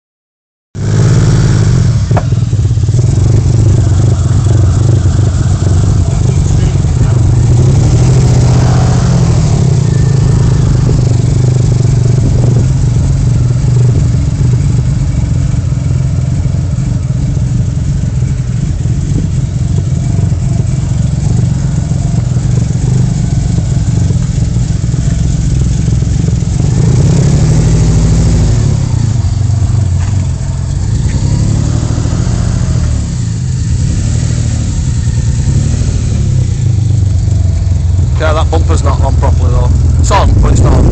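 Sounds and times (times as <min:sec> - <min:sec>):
car engine running with misfire: 0:00.8 - 0:40.9.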